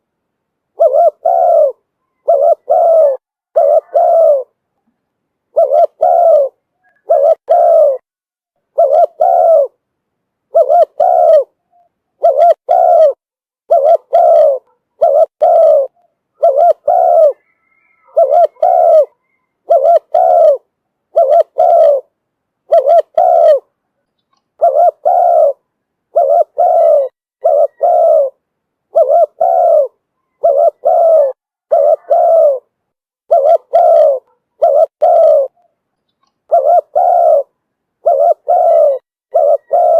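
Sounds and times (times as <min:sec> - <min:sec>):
dove cooing: 0:00.7 - 0:04.6, 0:05.5 - 0:08.1, 0:08.7 - 0:09.8, 0:10.5 - 0:23.8, 0:24.6 - 0:39.9.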